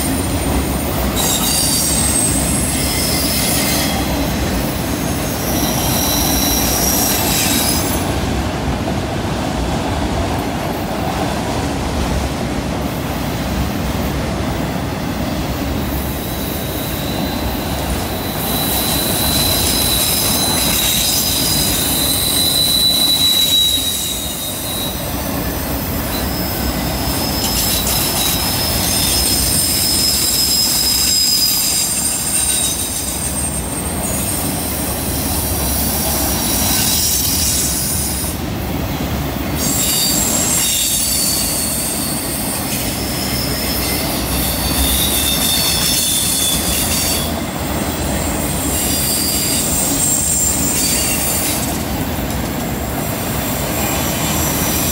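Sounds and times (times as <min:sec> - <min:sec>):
train wheels squealing on rail: 0:00.0 - 0:08.6, 0:13.0 - 0:54.9
rumble of wheels on track: 0:00.0 - 0:54.9.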